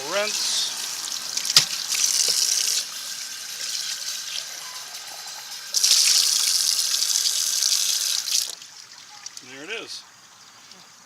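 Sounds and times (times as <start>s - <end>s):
running water spraying: 0.0s - 9.9s.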